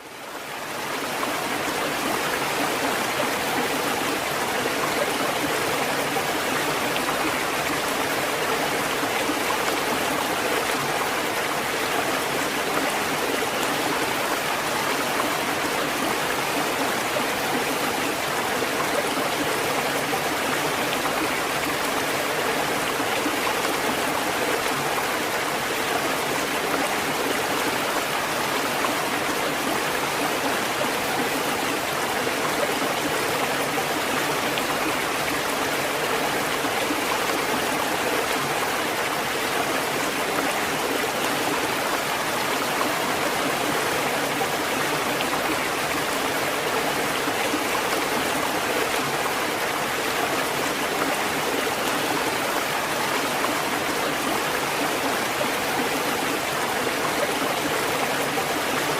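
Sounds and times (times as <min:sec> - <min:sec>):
flowing water rushing: 0:00.0 - 0:58.9.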